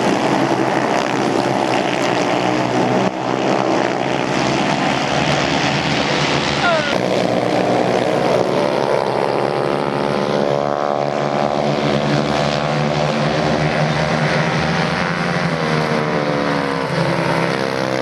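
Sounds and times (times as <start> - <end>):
racing motorcycle engines: 0.0 - 18.0.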